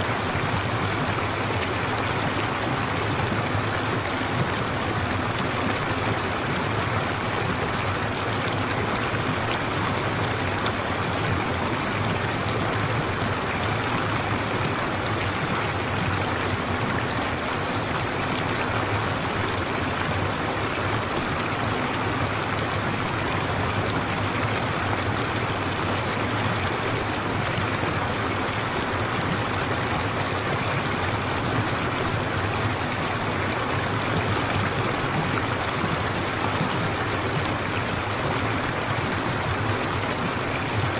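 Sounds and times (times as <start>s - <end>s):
running stream water: 0.0s - 40.9s.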